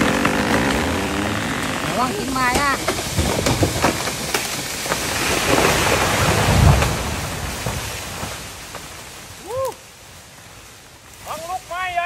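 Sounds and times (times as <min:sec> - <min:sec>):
tree falling with crash of wood: 0:00.0 - 0:11.7.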